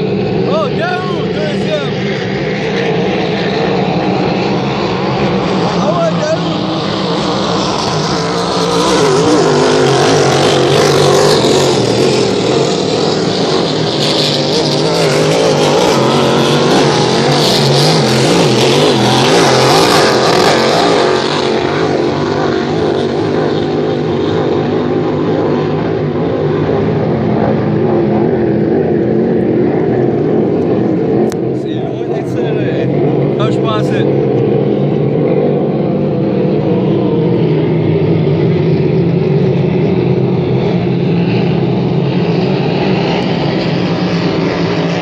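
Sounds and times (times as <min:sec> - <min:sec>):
hydroplane engines racing: 0:00.0 - 0:45.0.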